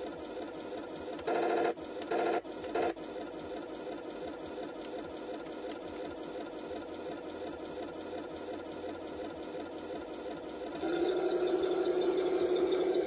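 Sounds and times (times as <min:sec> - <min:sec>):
simulated tank engine idle: 0:00.0 - 0:13.0.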